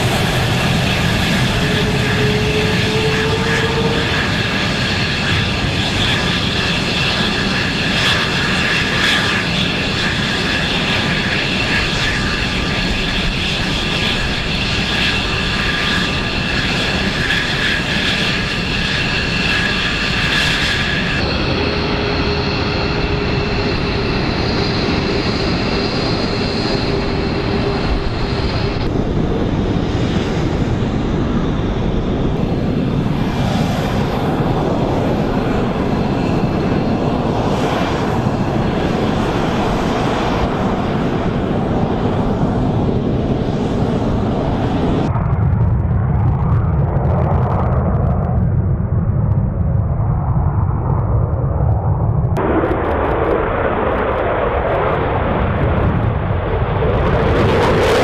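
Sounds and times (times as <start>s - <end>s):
high jet engine whine: 0.0s - 58.0s
jet engine rush: 0.0s - 58.0s.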